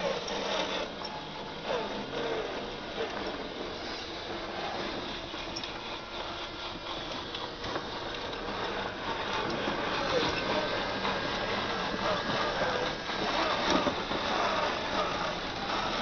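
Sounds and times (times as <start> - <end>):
toy truck motors whirring: 0.0 - 16.0.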